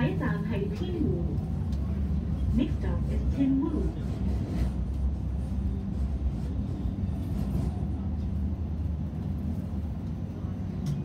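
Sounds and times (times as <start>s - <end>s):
light rail running rumble: 0.0s - 11.0s.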